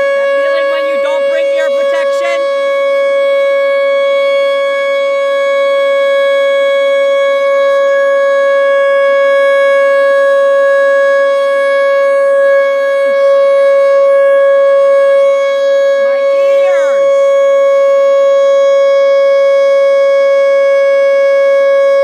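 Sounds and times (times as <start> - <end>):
warning siren steady tone: 0.0 - 22.0.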